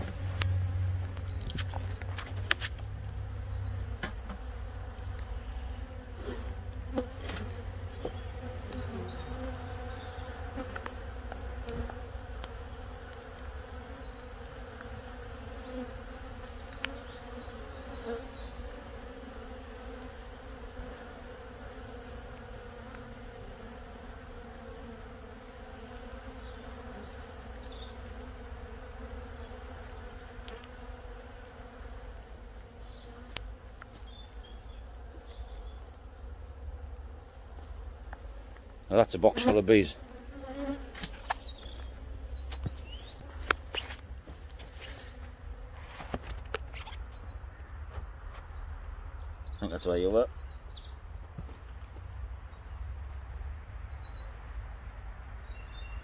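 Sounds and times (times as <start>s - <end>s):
bees buzzing: 0.0s - 47.6s.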